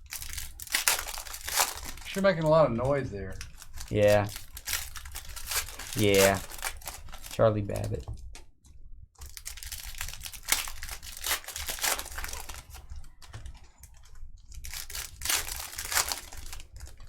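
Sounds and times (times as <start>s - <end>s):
card pack wrappers tearing and crinkling: 0.0s - 8.0s, 9.2s - 17.0s.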